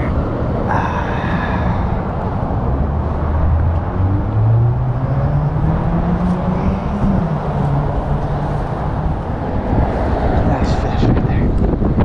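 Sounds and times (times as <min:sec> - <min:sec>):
passing vehicle engine hum: 0:00.0 - 0:12.0
road traffic rumble: 0:00.0 - 0:12.0.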